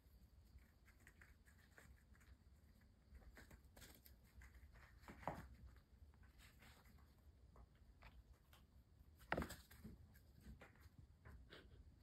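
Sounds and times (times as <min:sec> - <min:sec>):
kittens' paws scampering on rubber mat: 0:00.1 - 0:11.8.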